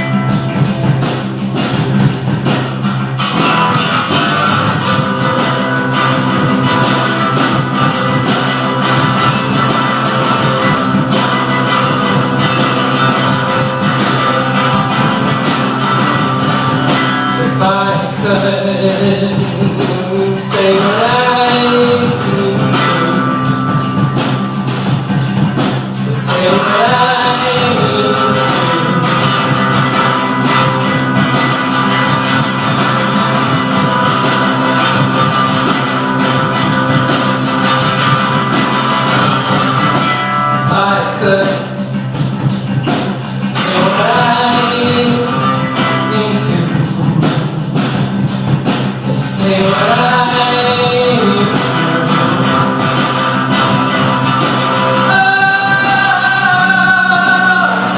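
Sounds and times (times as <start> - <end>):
drums with cymbal beat: 0.0 - 57.9
guitar chords: 0.0 - 57.9
person singing: 3.2 - 25.3, 25.9 - 48.0, 49.0 - 57.9.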